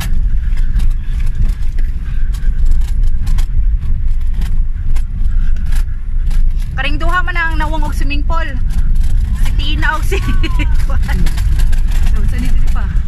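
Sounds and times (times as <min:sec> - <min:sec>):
bicycle clicks and rattles: 0:00.0 - 0:13.0
wind buffeting microphone: 0:00.0 - 0:13.0.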